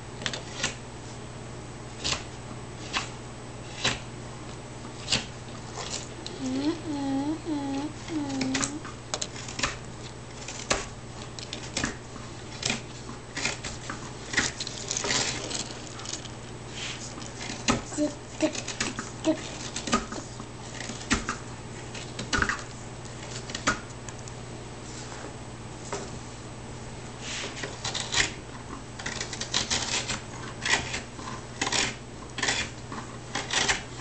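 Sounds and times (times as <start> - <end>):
knife shaving wood: 0.2 - 1.2, 1.9 - 4.1, 4.8 - 6.9, 7.5 - 24.1, 27.2 - 34.0.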